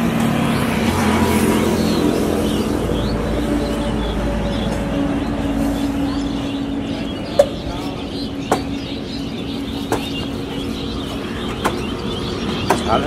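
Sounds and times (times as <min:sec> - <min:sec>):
low vehicle rumble: 0:00.0 - 0:13.0
steady traffic hum: 0:00.0 - 0:13.0.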